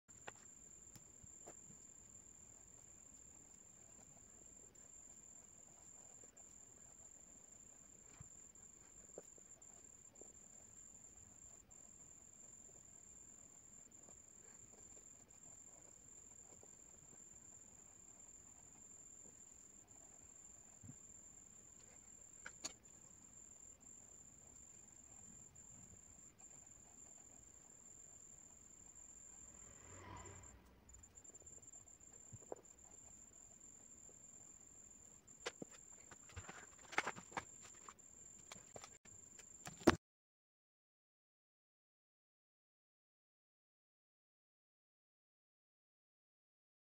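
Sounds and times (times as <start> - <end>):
faint high-pitched whine: 0.1 - 40.0.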